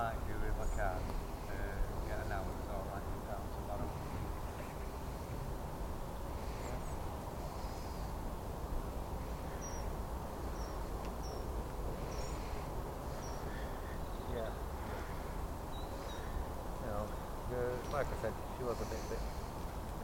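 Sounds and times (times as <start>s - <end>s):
low outdoor rumble: 0.0s - 20.0s
small birds chirping: 0.0s - 20.0s.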